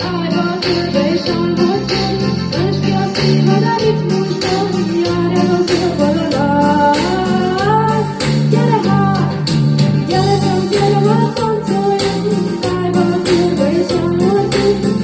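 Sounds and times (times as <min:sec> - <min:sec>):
keyboard rhythmic accompaniment: 0:00.0 - 0:15.0
woman singing: 0:00.0 - 0:15.0.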